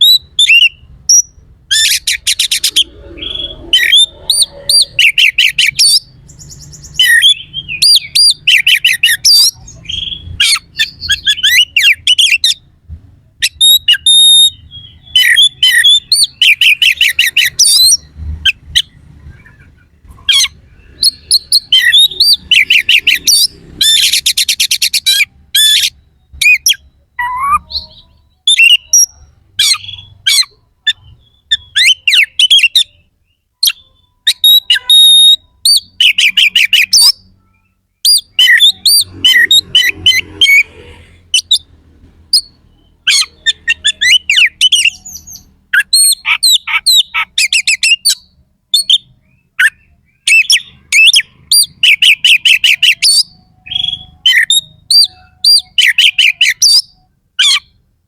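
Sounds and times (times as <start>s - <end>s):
bird singing whistled harsh notes: 0.0s - 12.7s, 13.4s - 41.7s, 42.3s - 57.8s.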